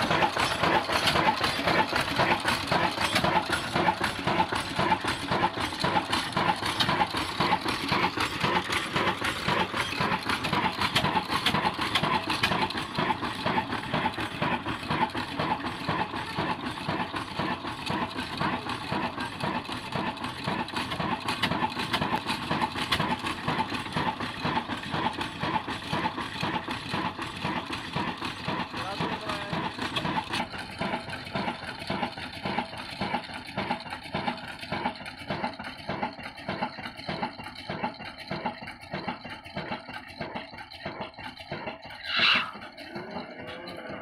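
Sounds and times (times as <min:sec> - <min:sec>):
flour mill mechanical clatter: 0:00.0 - 0:42.0
diesel engine running: 0:00.0 - 0:44.0.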